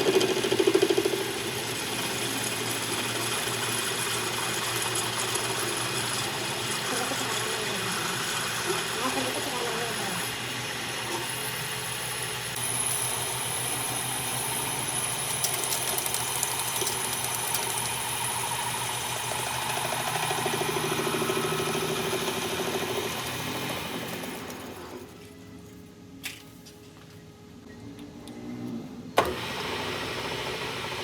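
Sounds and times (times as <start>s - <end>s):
workshop machinery whining: 0.0s - 31.0s.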